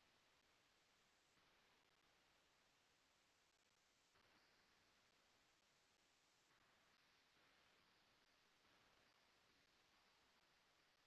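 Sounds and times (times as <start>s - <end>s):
faint hiss of call audio: 0.0s - 11.0s.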